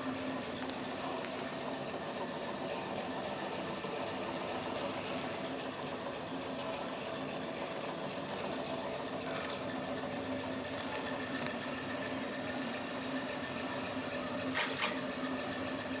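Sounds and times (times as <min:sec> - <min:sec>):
stepper motors whining hum: 0:00.0 - 0:16.0.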